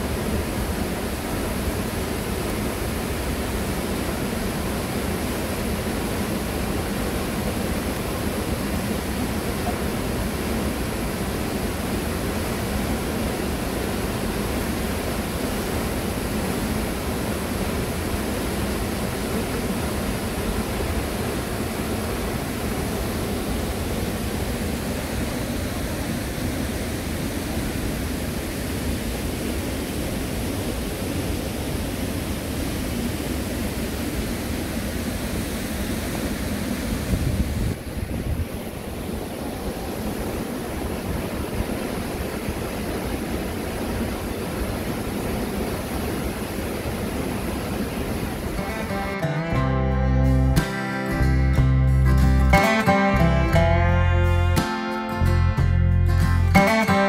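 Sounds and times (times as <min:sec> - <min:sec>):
waterfall rushing: 0:00.0 - 0:55.3, 0:56.1 - 0:57.0.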